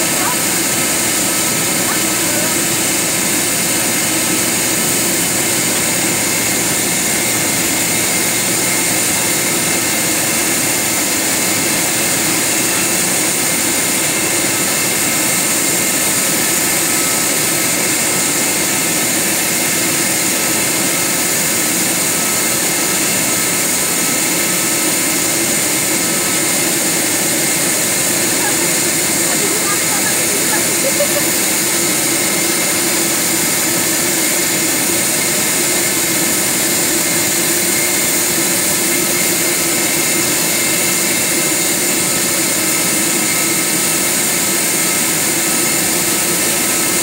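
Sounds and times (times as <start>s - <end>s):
jet turbine whine: 0.0s - 47.0s.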